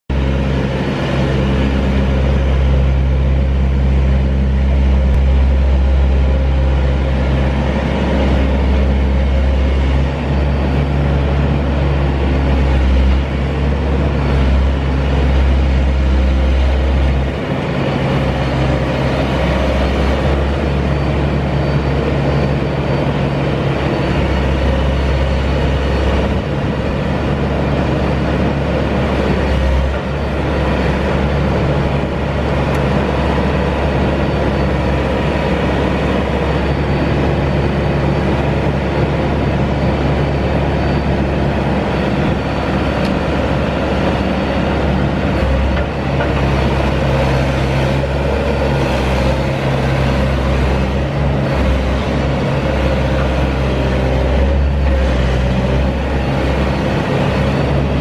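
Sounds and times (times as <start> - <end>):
diesel engine drone: 0.0 - 58.0.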